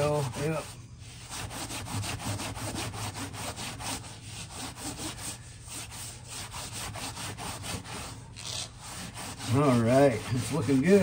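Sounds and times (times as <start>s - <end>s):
paper towel rubbing leather: 0.0s - 11.0s.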